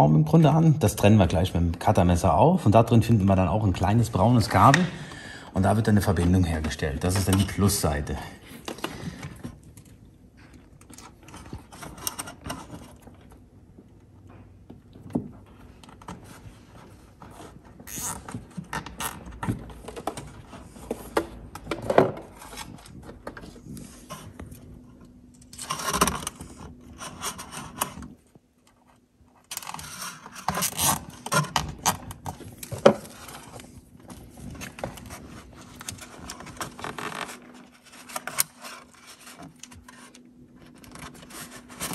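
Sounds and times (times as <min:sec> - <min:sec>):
cable scraping and rustling: 0:05.6 - 0:14.4, 0:15.1 - 0:41.9.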